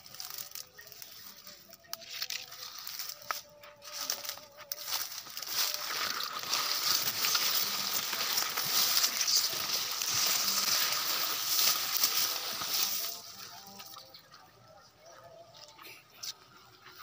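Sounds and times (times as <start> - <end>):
grass leaves rustling against phone: 0.0 - 14.1.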